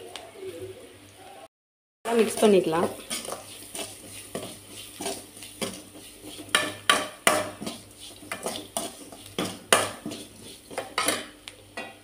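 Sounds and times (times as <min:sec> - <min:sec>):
metal spatula scraping a pan: 0:02.1 - 0:12.0.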